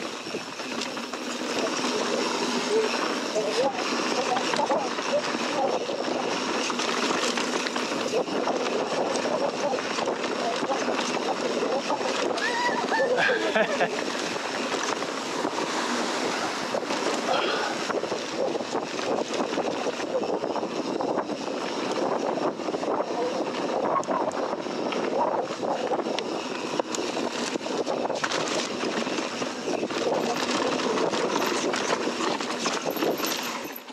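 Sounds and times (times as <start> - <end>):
bike clicking and rattling: 0.0 - 33.9
bike tyre and wind rush: 0.0 - 33.9.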